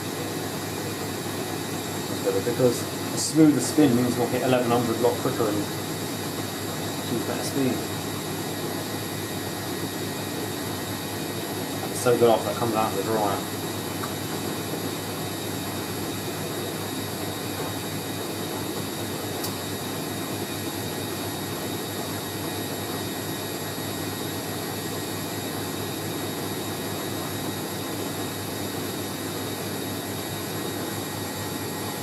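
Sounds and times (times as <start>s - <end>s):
washing machine spinning: 0.0s - 32.0s.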